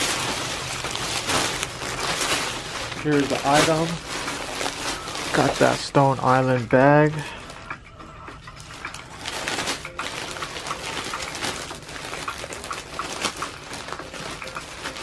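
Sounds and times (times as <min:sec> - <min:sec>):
plastic bag crinkling: 0:00.0 - 0:07.8, 0:08.5 - 0:15.0.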